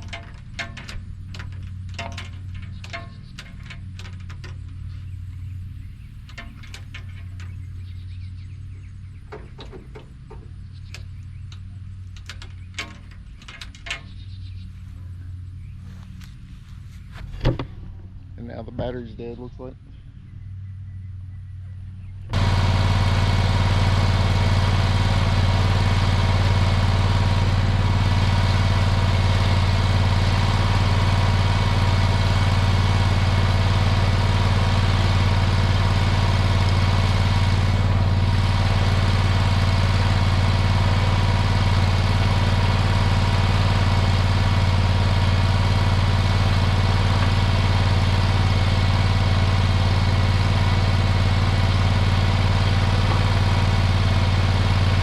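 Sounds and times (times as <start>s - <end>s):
small engine idling: 0.0s - 18.2s, 19.9s - 55.0s.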